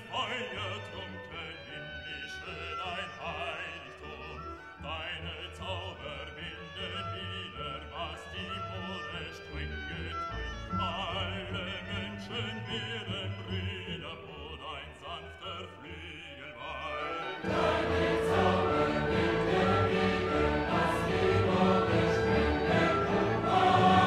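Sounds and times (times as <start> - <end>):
choral music: 0.0 - 24.0
classical singing with vibrato: 0.0 - 24.0.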